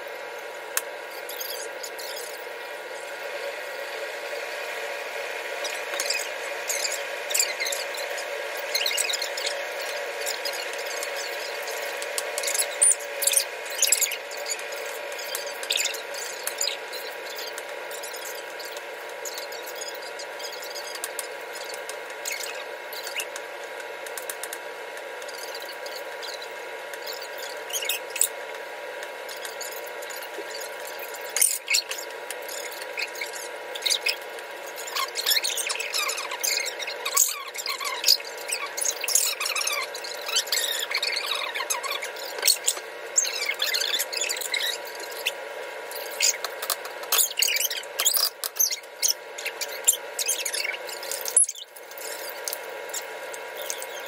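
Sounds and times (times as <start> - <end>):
background hum: 0.0 - 54.0.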